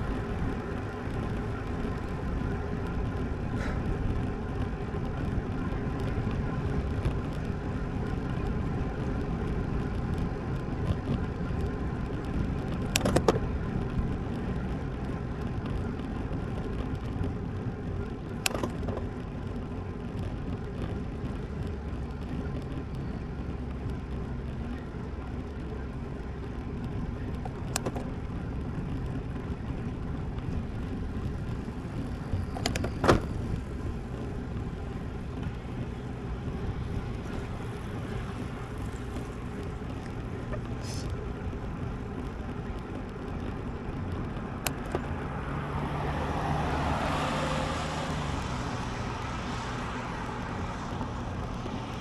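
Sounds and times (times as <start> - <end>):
bike tyre noise: 0.0 - 52.0.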